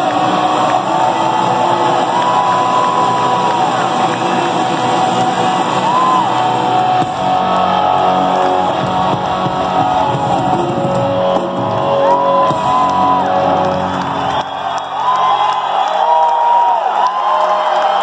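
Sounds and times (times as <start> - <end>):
rock band playing live: 0.0 - 14.5
drums: 0.0 - 17.3.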